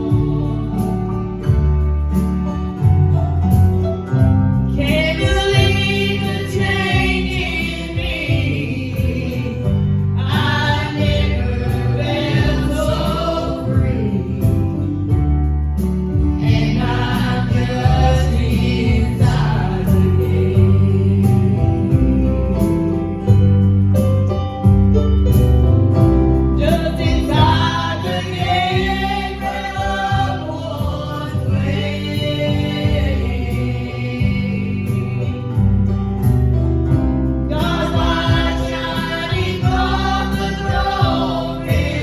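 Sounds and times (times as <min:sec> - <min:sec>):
gospel group singing: 0:00.0 - 0:02.8, 0:04.6 - 0:23.4, 0:26.6 - 0:42.0
instrumental backing with bass: 0:00.0 - 0:42.0.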